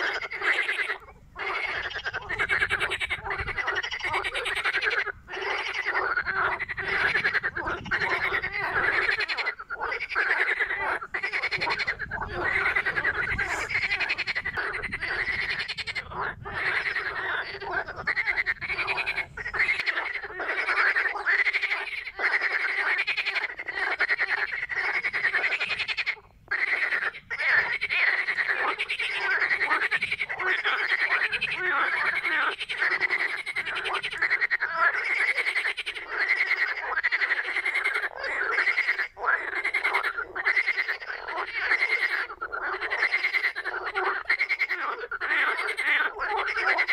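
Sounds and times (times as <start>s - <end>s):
frogs croaking: 0.0s - 46.9s.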